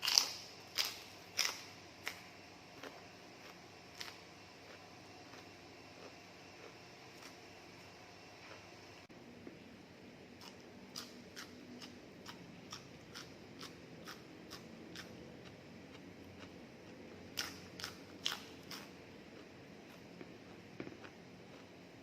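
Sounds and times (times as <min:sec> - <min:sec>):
person chewing crunchy food: 0:00.0 - 0:08.7, 0:10.4 - 0:22.0.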